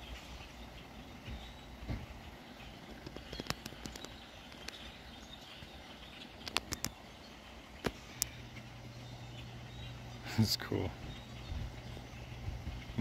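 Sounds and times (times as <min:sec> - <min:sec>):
blackbirds chattering: 0:00.0 - 0:13.0.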